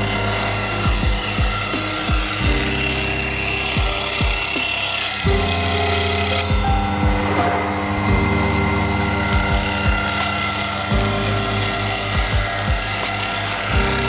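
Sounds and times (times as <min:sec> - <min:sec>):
table saw ripping wood: 0:00.0 - 0:06.6, 0:07.2 - 0:14.0
background music with steady beat: 0:00.0 - 0:14.0.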